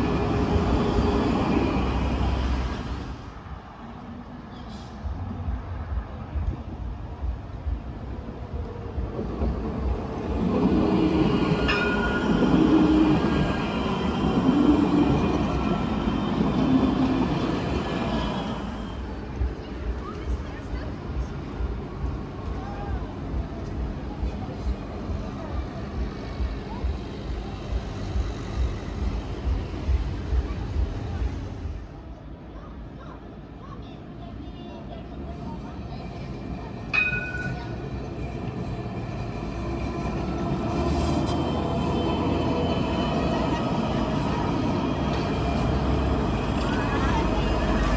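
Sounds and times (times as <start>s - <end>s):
tram rolling: 0.0s - 47.9s.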